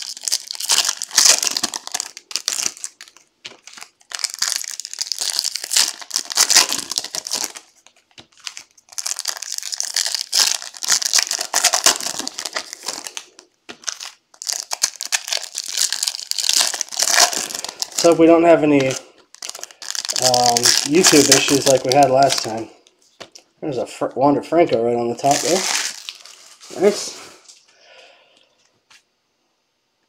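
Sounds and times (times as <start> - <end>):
foil wrappers crinkling and tearing: 0.0 - 23.4, 25.2 - 27.6.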